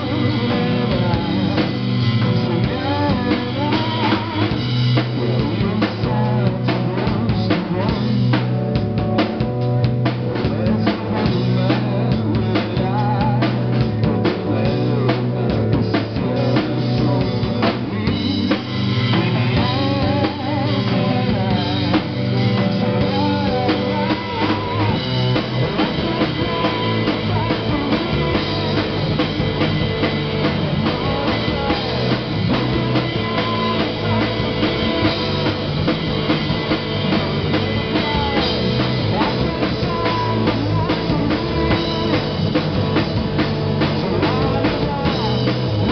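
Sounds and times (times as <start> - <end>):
drum kit beat: 0.0 - 45.9
electric guitar: 0.0 - 45.9.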